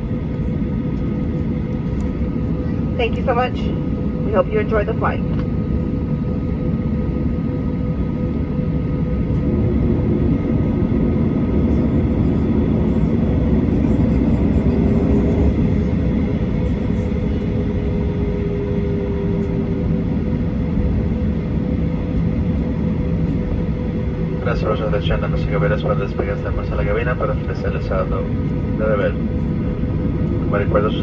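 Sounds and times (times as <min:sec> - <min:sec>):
airplane cabin engine rumble: 0:00.0 - 0:31.0
constant hum: 0:00.0 - 0:31.0.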